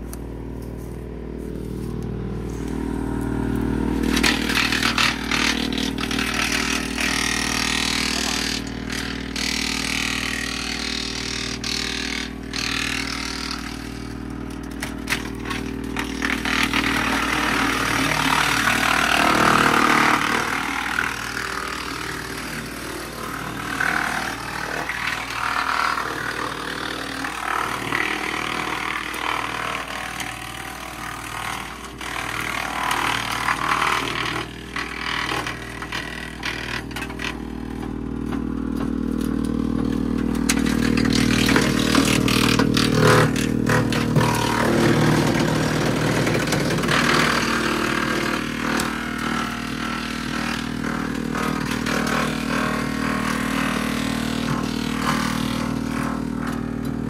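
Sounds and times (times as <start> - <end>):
tractor engine drone: 0.0 - 57.0
wood chipper crunching branches: 0.0 - 57.0.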